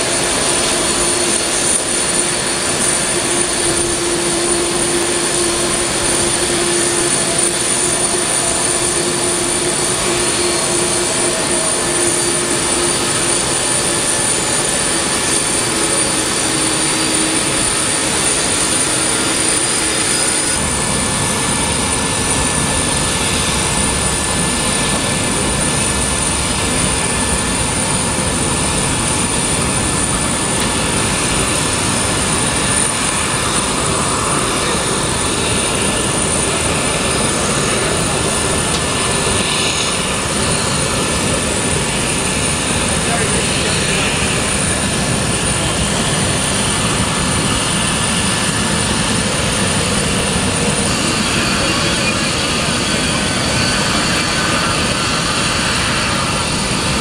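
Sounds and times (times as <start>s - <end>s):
jet engine deep rumble and whine: 0.0s - 57.0s
jet engines idling: 0.0s - 57.0s.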